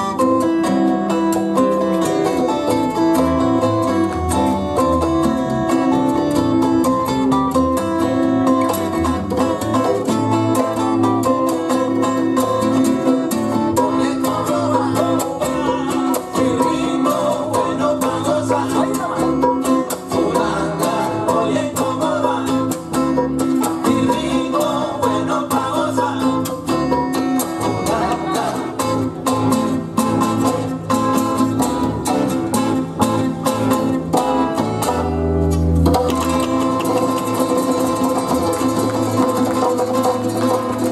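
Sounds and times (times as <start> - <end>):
acoustic guitars strumming: 0.0 - 40.9
bongos and congas: 0.0 - 40.9
electric bass: 0.0 - 40.9.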